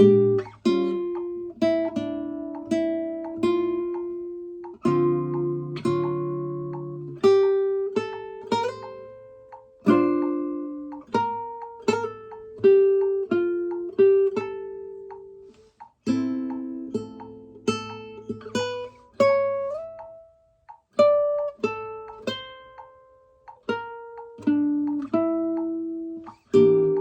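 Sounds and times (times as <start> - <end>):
nylon-string guitar fingerstyle: 0.0 - 27.0.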